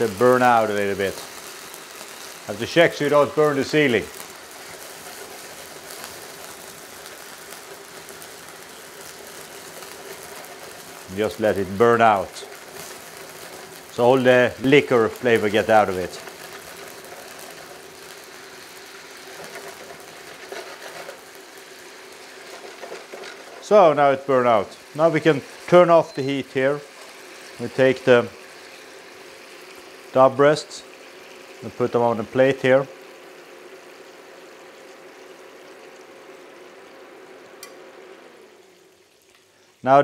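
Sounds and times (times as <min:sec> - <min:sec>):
hob humming: 0:00.0 - 0:34.6
flambe burning: 0:00.0 - 0:39.6
meat sizzling in a frying pan: 0:00.0 - 0:40.0.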